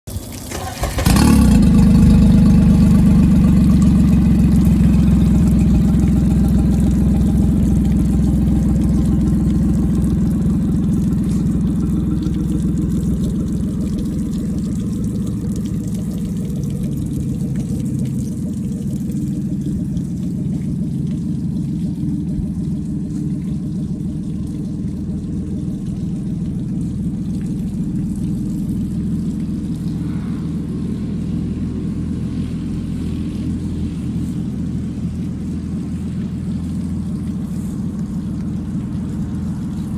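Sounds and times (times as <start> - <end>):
outboard motor idling: 0.1 - 39.9.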